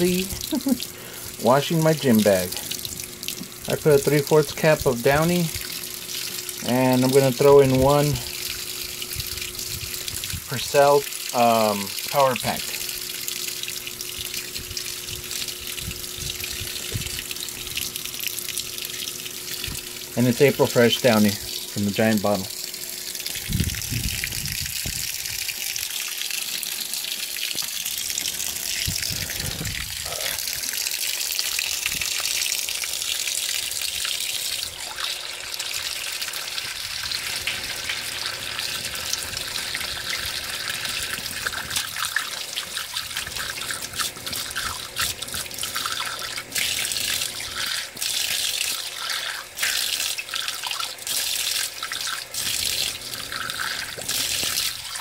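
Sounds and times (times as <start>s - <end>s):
water pouring into washer tub: 0.0s - 55.0s.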